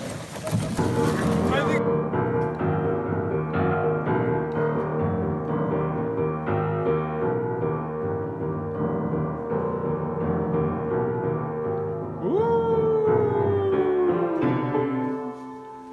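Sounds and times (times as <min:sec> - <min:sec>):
piano background music: 0:00.0 - 0:15.9.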